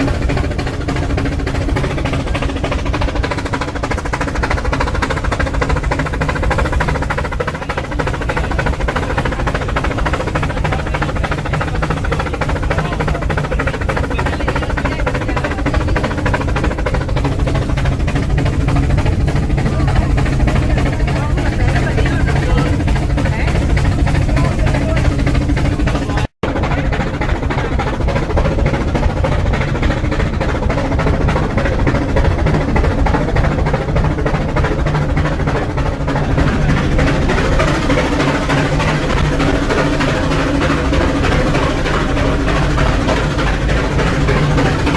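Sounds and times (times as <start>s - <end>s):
low machinery hum: 0.0s - 44.9s
low rumble: 0.0s - 44.9s
steam locomotive chuffing: 0.0s - 44.9s.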